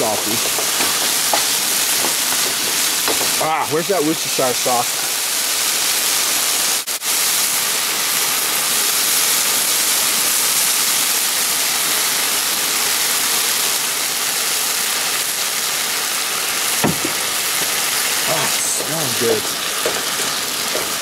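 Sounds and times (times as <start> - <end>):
meat and onions sizzling: 0.0 - 21.0.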